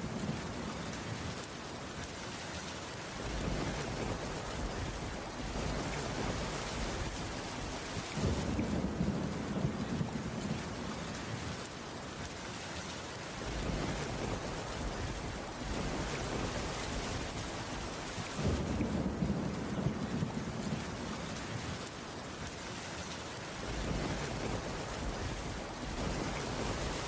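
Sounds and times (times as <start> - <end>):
rain on a wooden roof: 0.0 - 27.0.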